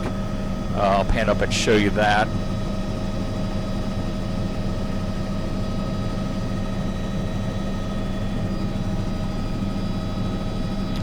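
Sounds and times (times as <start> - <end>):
aircraft engine drone in cabin: 0.0 - 11.0.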